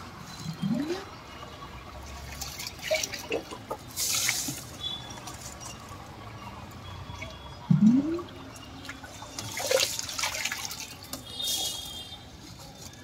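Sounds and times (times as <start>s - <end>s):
water sloshing and pouring: 0.0s - 11.8s
water splashing: 0.4s - 6.2s, 7.0s - 12.0s.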